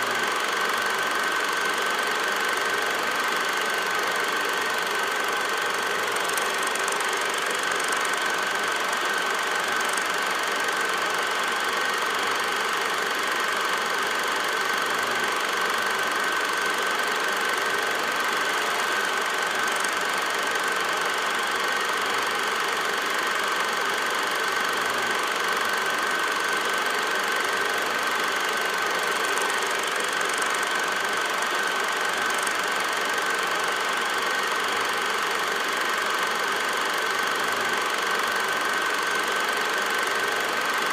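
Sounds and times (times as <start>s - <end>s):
mechanical running noise: 0.0s - 40.9s.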